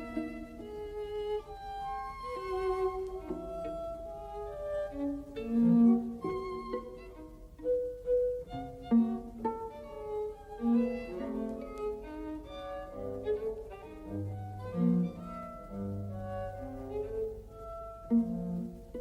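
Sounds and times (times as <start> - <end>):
violin and cello: 0.0 - 19.0.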